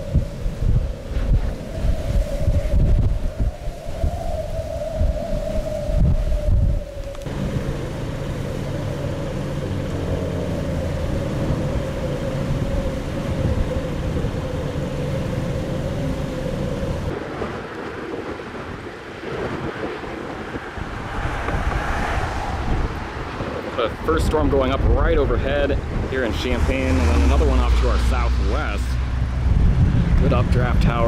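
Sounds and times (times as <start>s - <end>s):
wind buffeting microphone: 0.0s - 31.0s
wind rustling through grass: 0.0s - 31.0s.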